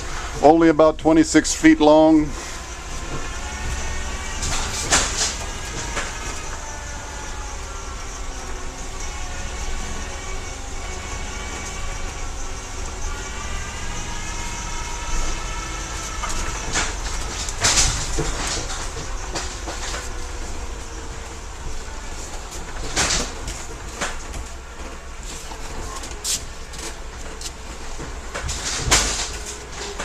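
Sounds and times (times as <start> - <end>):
whine rising and falling in pitch: 0.0 - 28.4
bus engine running: 0.0 - 30.0
road noise rumble: 0.0 - 30.0.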